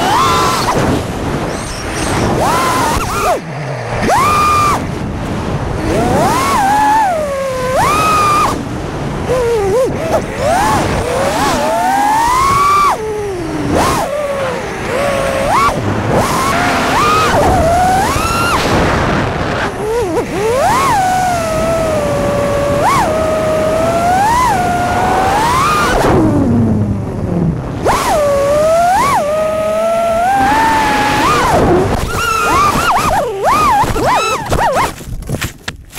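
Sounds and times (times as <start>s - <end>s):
drone motors whining: 0.0s - 35.5s
wind on microphone: 0.0s - 35.9s.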